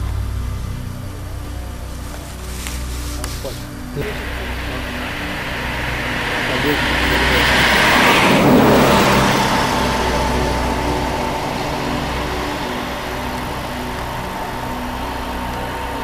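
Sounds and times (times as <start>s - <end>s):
rush of noise: 0.0s - 16.0s
vehicle engine running: 0.0s - 16.0s.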